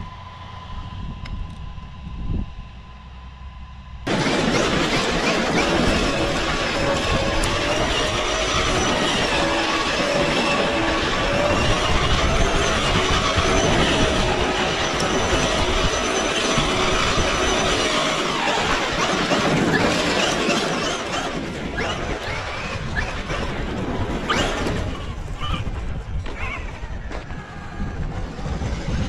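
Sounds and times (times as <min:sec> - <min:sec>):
electric motor whine: 0:00.0 - 0:29.0
tyres spinning on dirt: 0:04.0 - 0:29.0.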